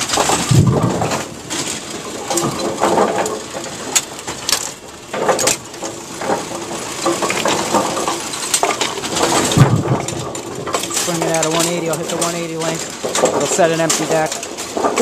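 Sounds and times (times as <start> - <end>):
bowling pinsetter machine running: 0.0 - 15.0
sharp metallic clicks and clacks: 2.3 - 15.0.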